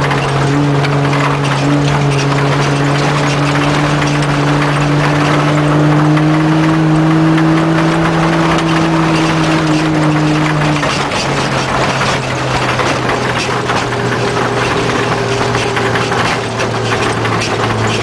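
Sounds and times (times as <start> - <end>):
loose gear and body rattling: 0.0 - 18.0
vehicle engine under load: 0.0 - 18.0.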